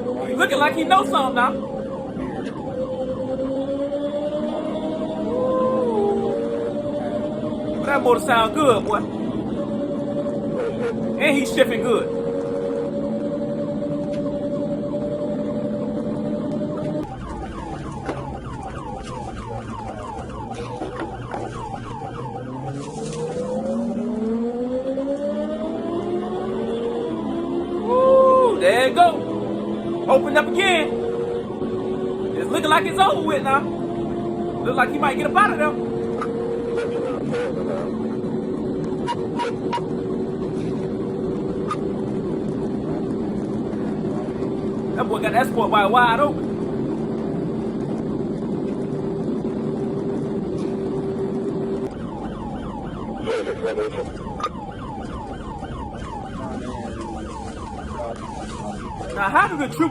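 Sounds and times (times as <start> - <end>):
police siren yelping: 0.0 - 59.9
road noise: 0.0 - 59.9
vehicle engine accelerating: 0.0 - 59.9.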